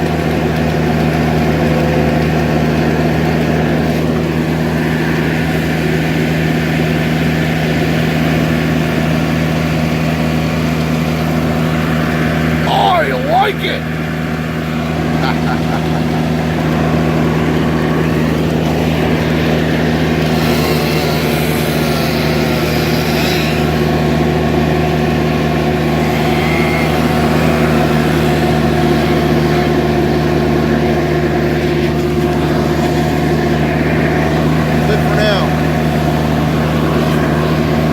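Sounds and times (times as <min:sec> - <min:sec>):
loader engine droning: 0:00.0 - 0:37.9.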